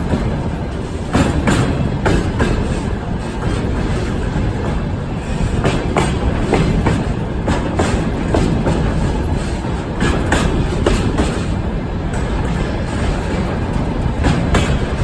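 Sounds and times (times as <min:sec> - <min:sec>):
freight train rumble: 0:00.0 - 0:15.0
wheels clacking over rails: 0:00.0 - 0:15.0.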